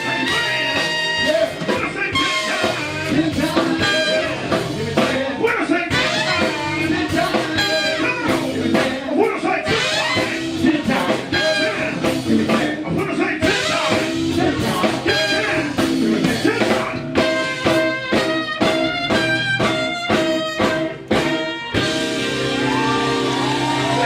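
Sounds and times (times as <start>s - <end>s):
soul band playing: 0.0s - 24.0s.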